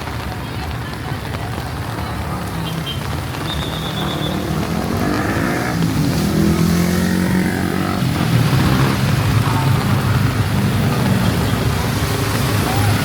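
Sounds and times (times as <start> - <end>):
rain and wet road hiss: 0.0 - 13.0
vehicle engines humming: 0.0 - 13.0.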